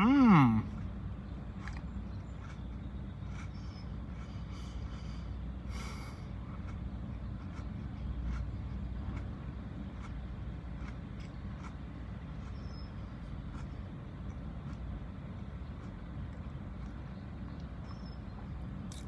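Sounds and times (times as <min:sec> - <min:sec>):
chewing crackers: 0:00.0 - 0:19.0.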